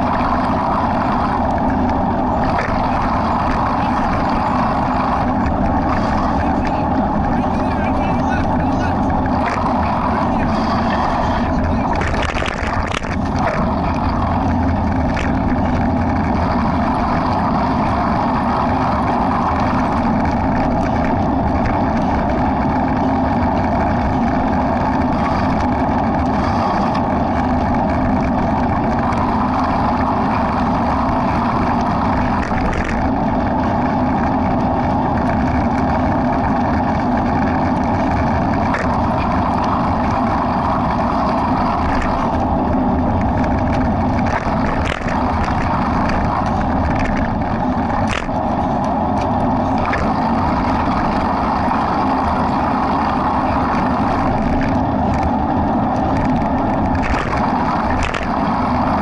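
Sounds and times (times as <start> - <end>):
road and wind noise: 0.0 - 59.0
vehicle engine running: 0.0 - 59.0.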